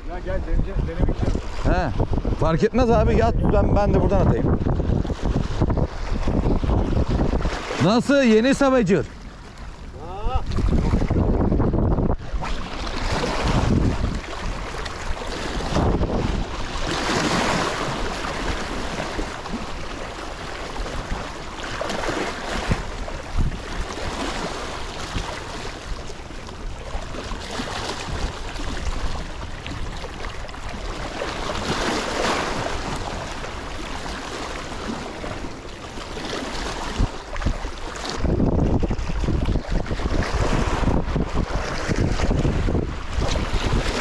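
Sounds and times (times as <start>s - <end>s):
wind buffeting microphone: 0.0s - 44.0s
waves splashing on rocks: 0.1s - 11.3s, 12.1s - 44.0s.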